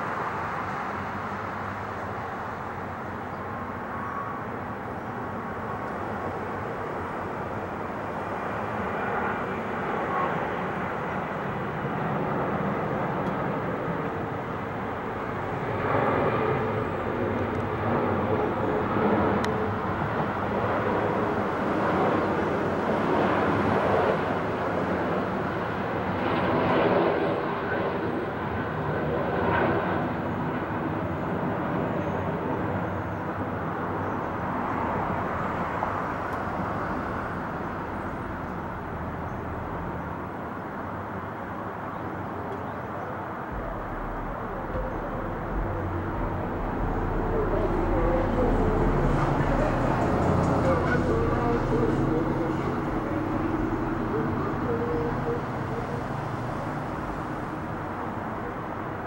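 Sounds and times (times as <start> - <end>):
jet airliner roaring overhead: 0.0 - 59.0.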